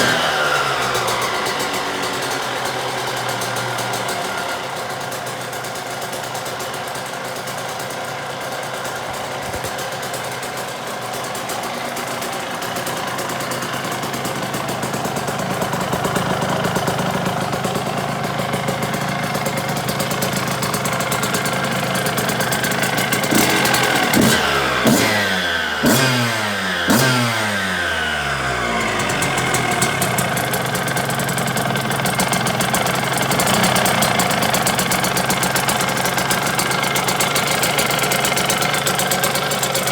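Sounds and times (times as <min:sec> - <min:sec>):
two-stroke engine idling and revving: 0:00.0 - 0:39.9.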